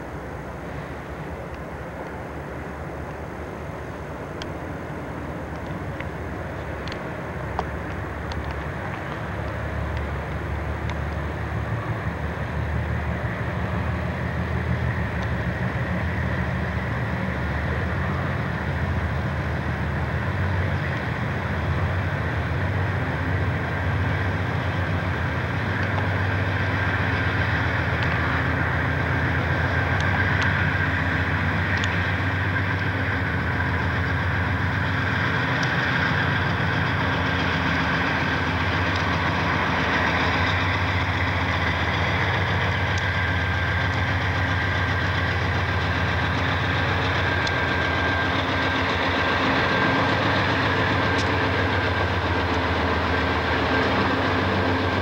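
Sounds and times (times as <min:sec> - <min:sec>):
diesel locomotive engines droning: 0:00.0 - 0:55.0.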